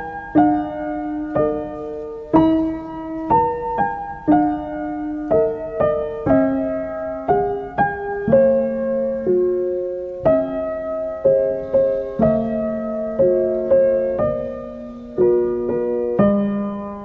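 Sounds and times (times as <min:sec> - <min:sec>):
gentle solo piano melody: 0:00.0 - 0:17.0.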